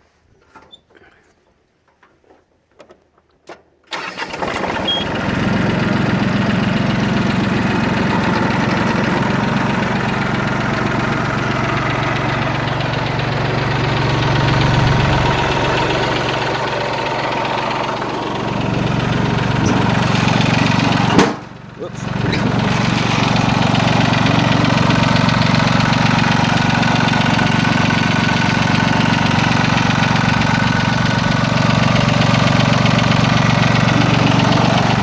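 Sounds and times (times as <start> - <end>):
tractor diesel engine idling: 3.9 - 35.0.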